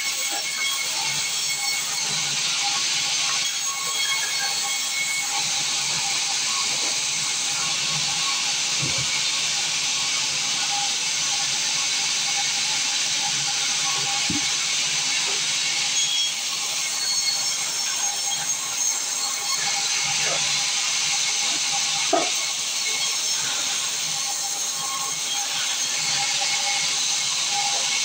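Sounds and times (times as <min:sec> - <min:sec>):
saw cutting timber: 0:00.0 - 0:28.0.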